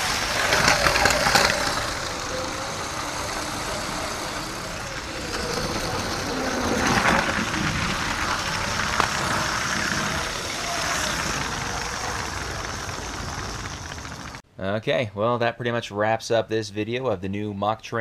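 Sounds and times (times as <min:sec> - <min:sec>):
toy train whirring and clattering: 0:00.0 - 0:14.4.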